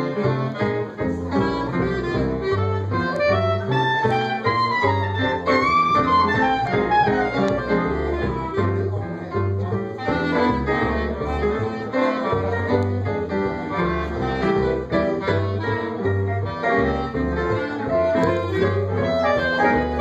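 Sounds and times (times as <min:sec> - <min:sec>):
live jazz band playing: 0:00.0 - 0:20.0
moving bass line: 0:00.0 - 0:20.0.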